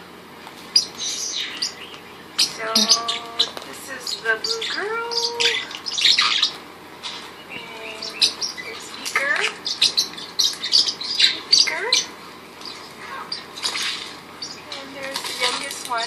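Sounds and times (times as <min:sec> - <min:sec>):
parrotlets chirping: 0:00.6 - 0:16.0.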